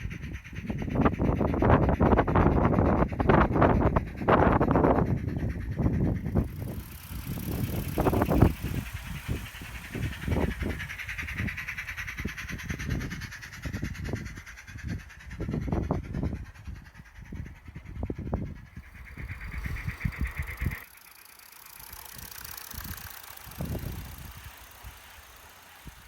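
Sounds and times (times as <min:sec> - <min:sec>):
hiss: 0:00.0 - 0:26.0.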